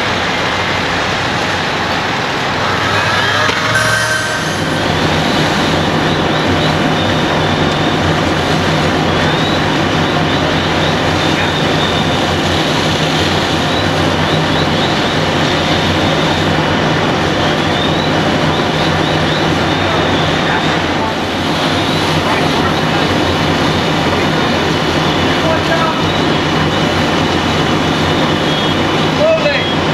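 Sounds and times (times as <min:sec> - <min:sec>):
diesel pump engine droning: 0:00.0 - 0:29.9.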